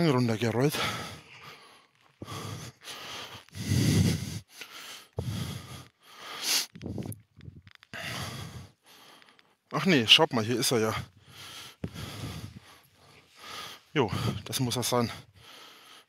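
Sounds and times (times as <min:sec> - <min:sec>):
man breathing heavily: 0:00.7 - 0:07.2, 0:07.9 - 0:09.7, 0:10.8 - 0:16.0.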